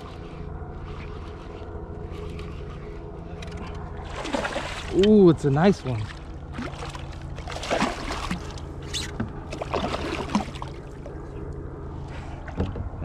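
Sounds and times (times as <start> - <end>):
steady low hum: 0.0 - 13.0
water splashing and sloshing: 0.0 - 13.0.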